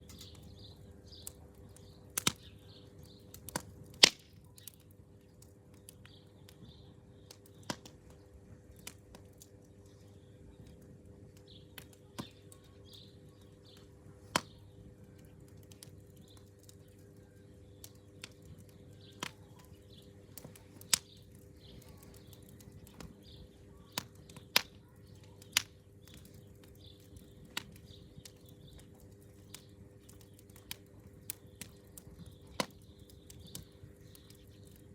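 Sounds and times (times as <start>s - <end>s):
burning wood popping: 0.0s - 34.9s.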